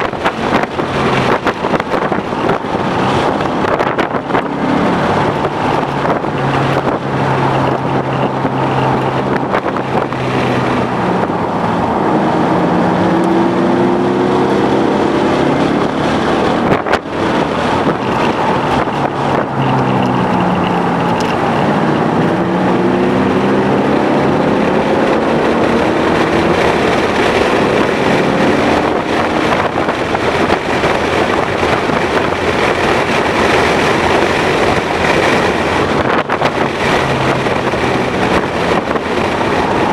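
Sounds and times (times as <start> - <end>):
car engine revving: 0.0 - 39.9
wind and road noise: 0.0 - 39.9.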